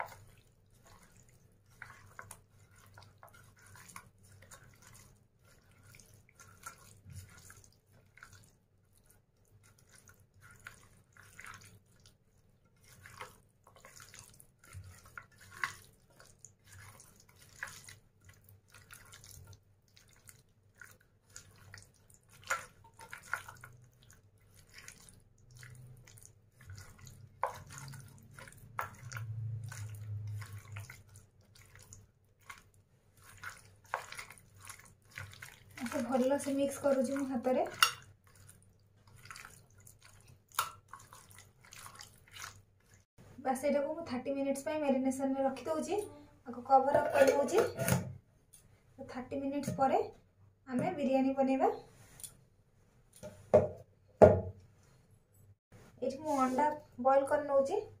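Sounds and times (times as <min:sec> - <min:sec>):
wet squelches of hand mixing: 0:00.0 - 0:54.0, 0:54.6 - 0:58.0.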